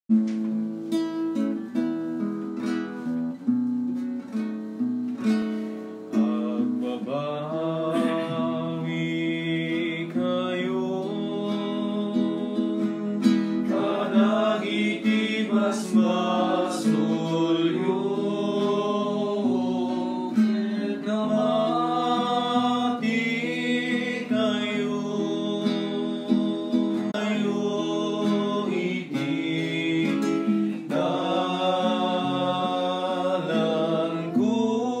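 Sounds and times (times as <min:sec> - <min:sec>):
acoustic guitar: 0:00.1 - 0:35.0
person singing: 0:05.6 - 0:35.0.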